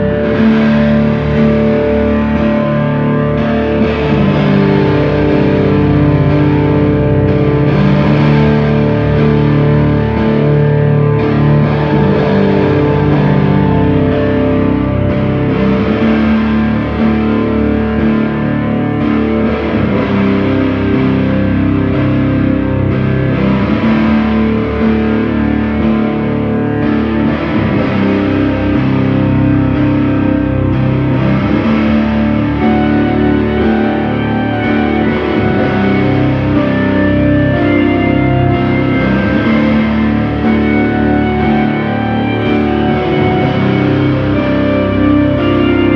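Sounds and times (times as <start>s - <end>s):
distorted electric guitar: 0.0s - 45.9s
keyboard chords: 0.0s - 45.9s
sustained droning tones: 0.0s - 45.9s.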